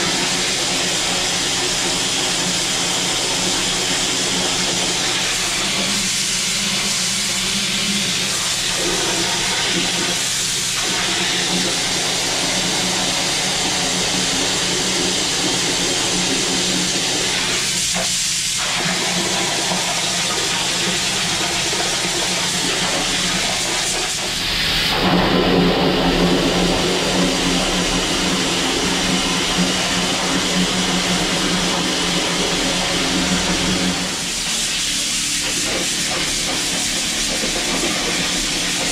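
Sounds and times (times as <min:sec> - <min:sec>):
water jet blasting: 0:00.0 - 0:38.9.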